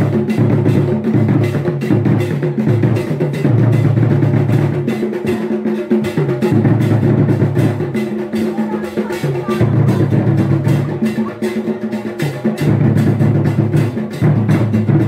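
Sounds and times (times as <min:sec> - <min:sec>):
music with drum beat and bass: 0:00.0 - 0:15.0.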